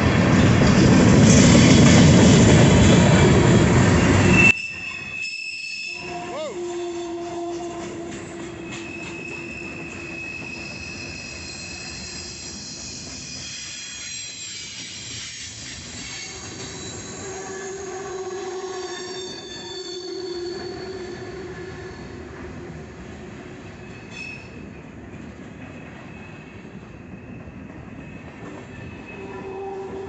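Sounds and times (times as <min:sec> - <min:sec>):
rumble of train wheels on track: 0:00.0 - 0:05.0, 0:06.0 - 0:30.0
steel wheels squealing on rails: 0:00.0 - 0:22.9, 0:23.5 - 0:24.8, 0:25.6 - 0:30.0.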